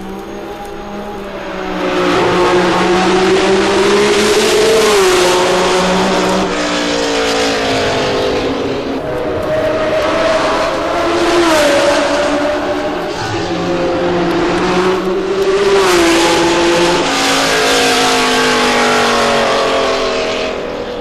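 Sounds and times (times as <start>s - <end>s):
racing car engines downshifting: 0.0s - 21.0s.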